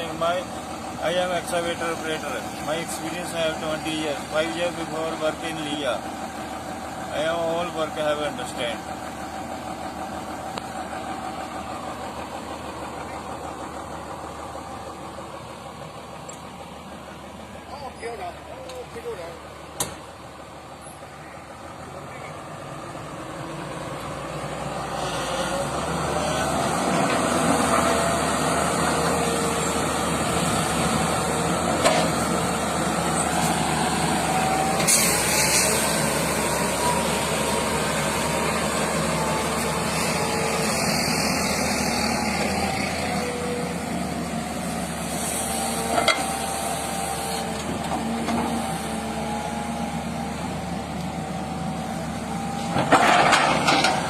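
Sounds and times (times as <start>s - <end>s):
diesel machine engine: 0.0s - 54.0s.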